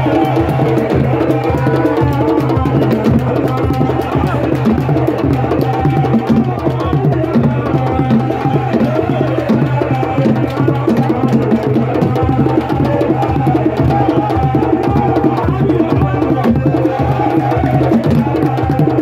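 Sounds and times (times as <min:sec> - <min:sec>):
loud drum-led music: 0:00.0 - 0:19.0.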